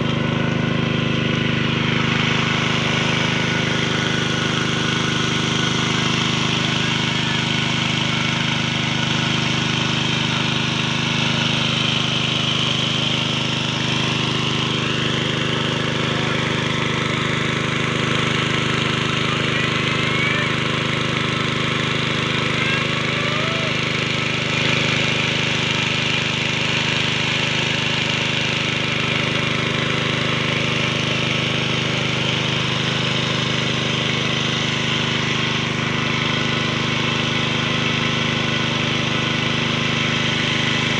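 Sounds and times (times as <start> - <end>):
water pump engine humming: 0.0 - 40.9.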